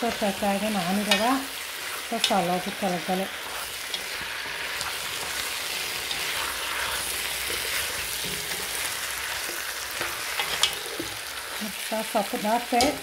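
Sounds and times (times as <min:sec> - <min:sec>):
potatoes sizzling in a pot: 0:00.0 - 0:13.0
spatula turning food: 0:00.0 - 0:13.0.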